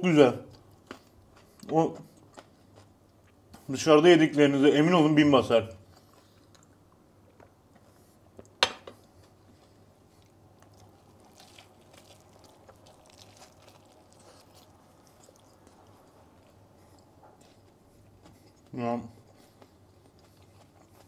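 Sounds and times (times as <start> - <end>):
faint chewing: 0.5 - 3.7, 5.8 - 21.0.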